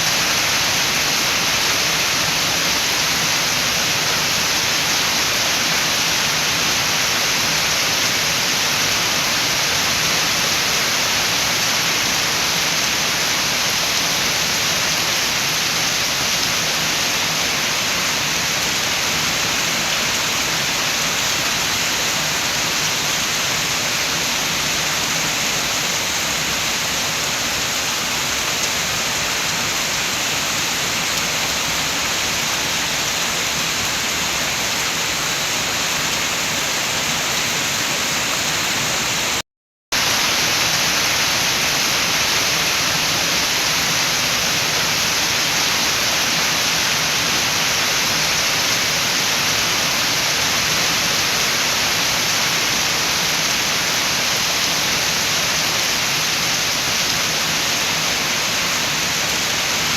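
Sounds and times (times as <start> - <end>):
rain falling with wind: 0.0 - 59.9.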